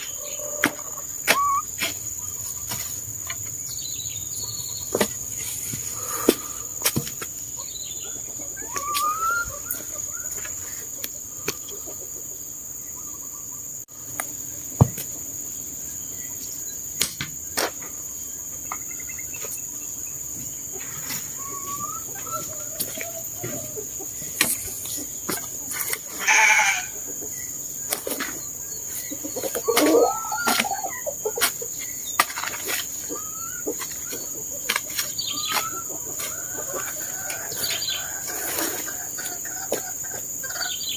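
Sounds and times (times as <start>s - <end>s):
chickens clucking: 0.0s - 40.9s
high insect drone: 0.0s - 40.9s.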